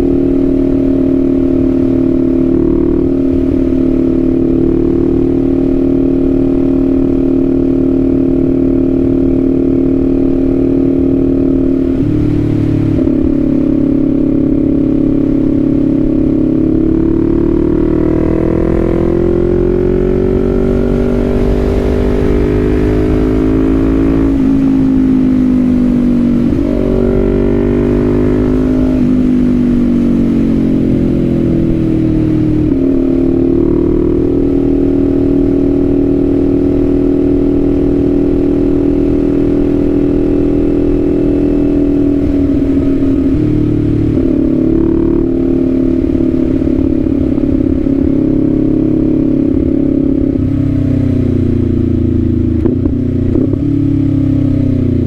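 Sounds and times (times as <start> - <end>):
motorcycle engine shifting up: 4.5 - 55.0.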